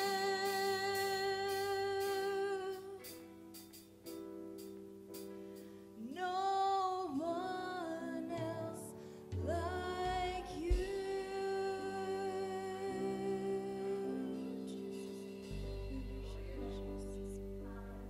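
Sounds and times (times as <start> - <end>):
woman singing long wordless notes: 0.0 - 3.3, 5.9 - 18.0
worship band playing softly: 0.0 - 18.0.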